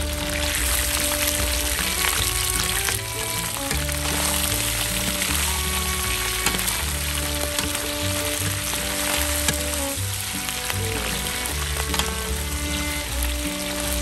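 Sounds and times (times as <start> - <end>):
background music: 0.0 - 14.0
frying in hot oil: 0.0 - 14.0
spatula scraping a pan: 0.6 - 14.0.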